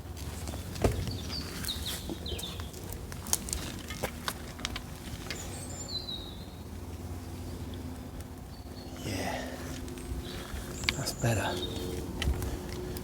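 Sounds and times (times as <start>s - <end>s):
steady low hum: 0.0s - 13.0s
small birds chirping: 0.2s - 3.8s, 5.1s - 13.0s.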